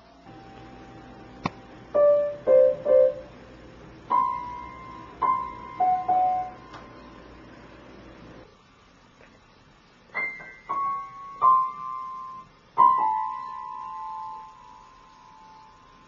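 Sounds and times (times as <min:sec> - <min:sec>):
piano notes: 0:00.0 - 0:07.3, 0:10.1 - 0:16.0.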